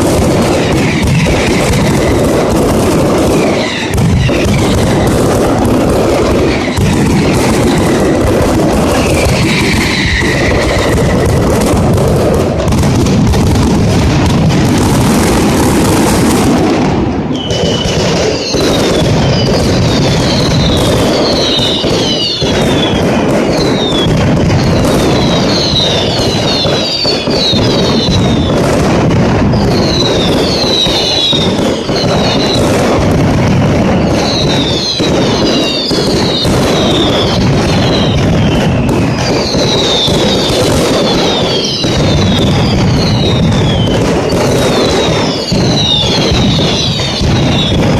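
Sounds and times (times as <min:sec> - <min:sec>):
falling firework whistles: 0:00.0 - 0:47.9
firecracker bangs and booms: 0:00.0 - 0:47.9.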